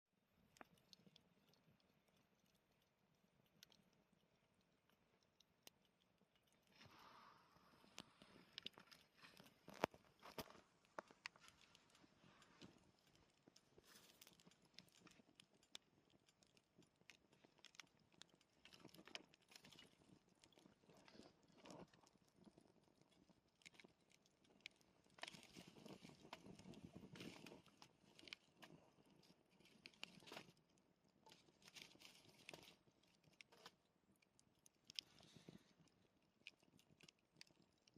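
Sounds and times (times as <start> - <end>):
faint campfire crackling: 0.3 - 37.9.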